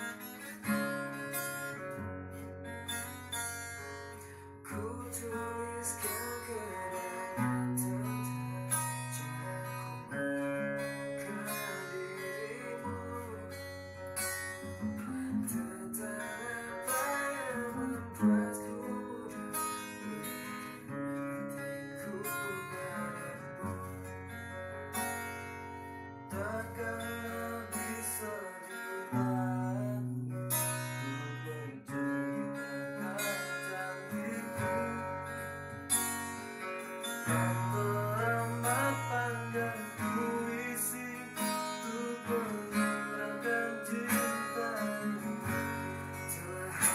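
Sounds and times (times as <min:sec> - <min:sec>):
acoustic guitar strumming chords: 0:00.0 - 0:46.9.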